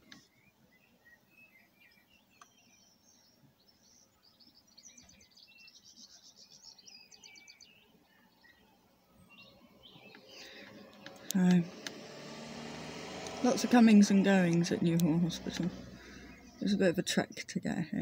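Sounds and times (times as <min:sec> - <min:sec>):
songbird chirping and trilling: 0:00.0 - 0:18.0.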